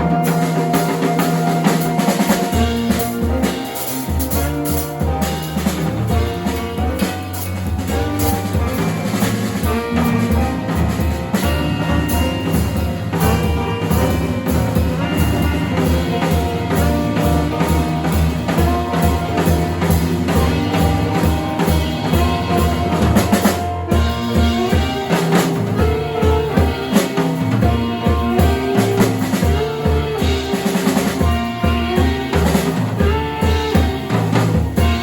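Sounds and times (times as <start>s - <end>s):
drum kit hits and fills: 0.0s - 35.0s
jazz band playing live: 0.0s - 35.0s.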